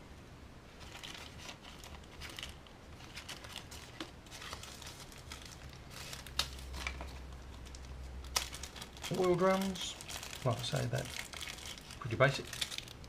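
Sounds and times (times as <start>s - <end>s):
plastic packaging crinkling: 0.8s - 13.0s.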